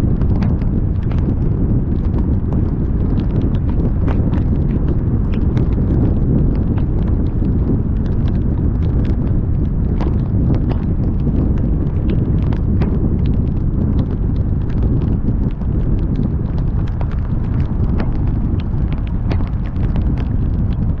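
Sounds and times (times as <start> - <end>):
raindrops tapping on microphone: 0.0 - 21.0
wind and road noise: 0.0 - 21.0.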